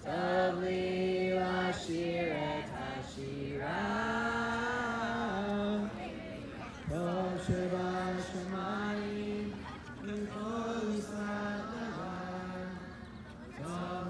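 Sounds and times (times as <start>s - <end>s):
group singing in unison: 0.0s - 14.0s.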